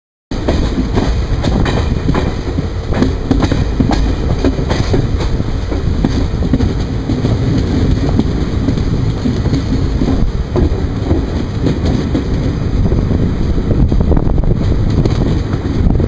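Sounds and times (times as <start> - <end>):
train wheels rumbling on rail: 0.3 - 16.0
wheels clacking over rail joints: 0.3 - 16.0.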